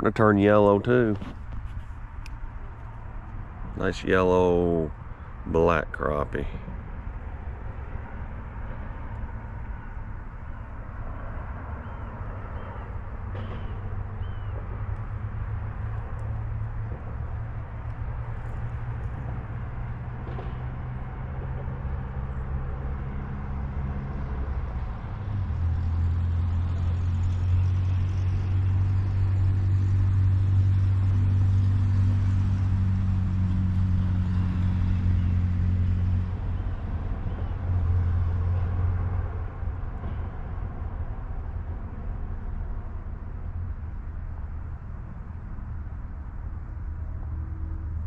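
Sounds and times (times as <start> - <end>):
low engine drone: 0.0 - 48.0.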